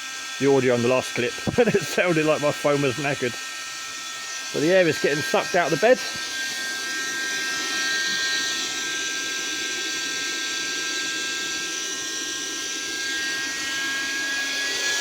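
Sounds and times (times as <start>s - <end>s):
air pump motor whine: 0.0s - 15.0s.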